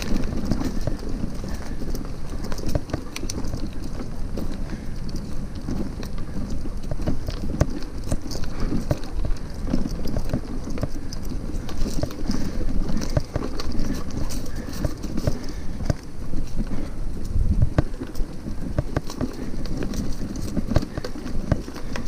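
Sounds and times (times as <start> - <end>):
bicycle tyres rumbling on dirt: 0.0 - 22.0
bike knocks and rattles: 0.0 - 22.0.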